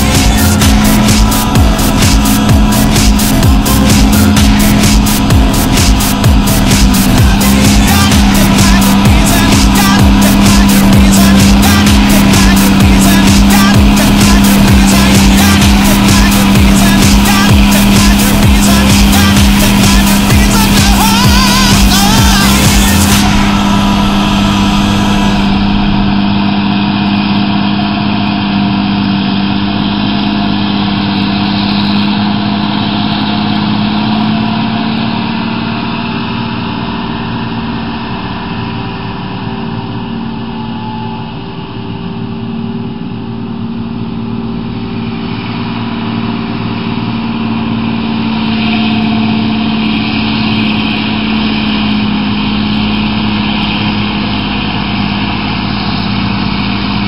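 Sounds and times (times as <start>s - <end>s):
forage harvester drone: 0.0s - 57.0s.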